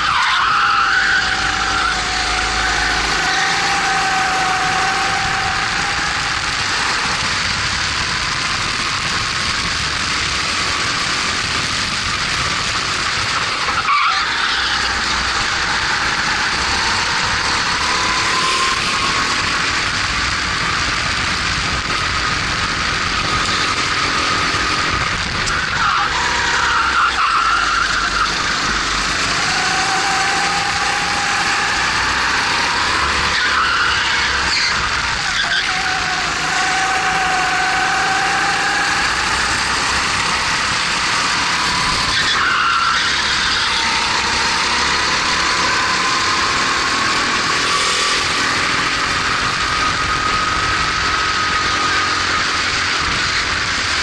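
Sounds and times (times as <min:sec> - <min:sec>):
kart engine revving: 0:00.0 - 0:54.0
wind noise: 0:00.8 - 0:13.9, 0:14.8 - 0:26.7, 0:27.4 - 0:54.0.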